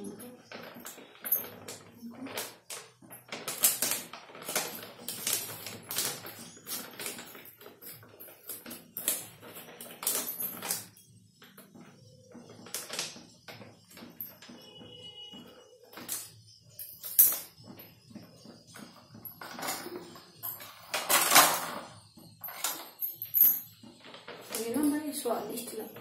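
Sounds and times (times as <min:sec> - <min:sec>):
bangles jingling: 0:00.0 - 0:12.6, 0:13.2 - 0:26.0.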